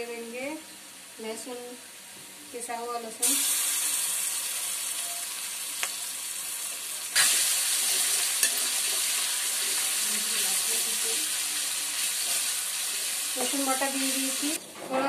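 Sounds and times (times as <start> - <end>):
garlic paste sizzling in oil: 0.1 - 14.6.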